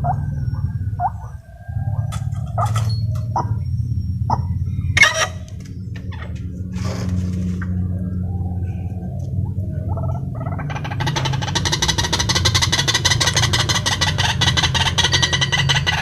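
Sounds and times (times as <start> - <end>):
steady low hum: 0.0 - 16.0
waterhens clucking calls: 0.0 - 16.0.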